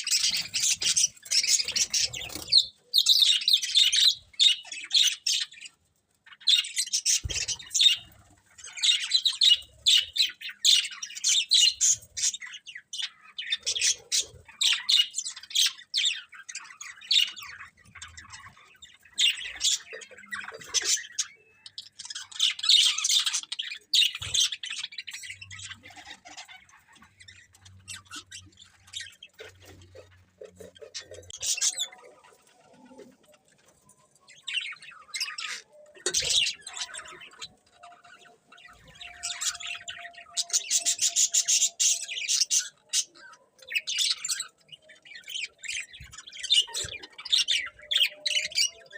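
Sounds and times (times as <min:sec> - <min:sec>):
budgerigars chirping: 0:00.0 - 0:33.2, 0:34.4 - 0:48.9.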